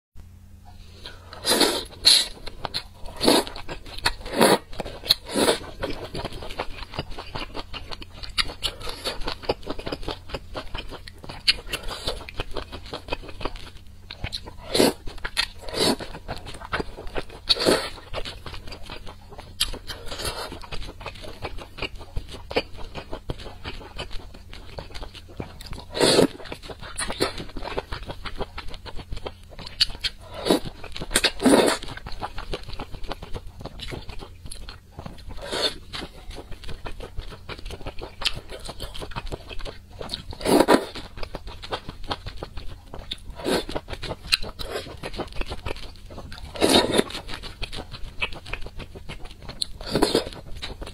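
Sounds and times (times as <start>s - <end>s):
wet chewing and crunching: 1.0s - 50.9s.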